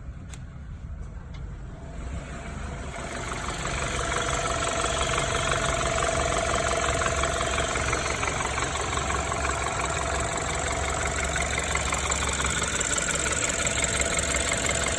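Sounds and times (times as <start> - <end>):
car engine idling with rattle: 0.0 - 14.9.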